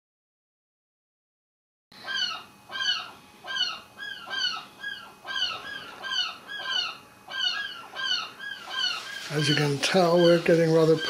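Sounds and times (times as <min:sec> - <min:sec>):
gulls yelping calls: 0:02.0 - 0:11.0.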